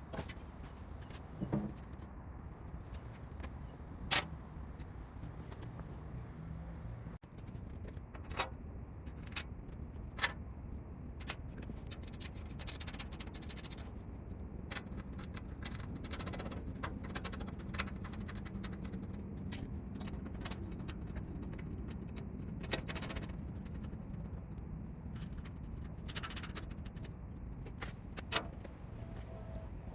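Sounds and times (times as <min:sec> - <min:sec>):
low background hum: 0:00.0 - 0:29.9.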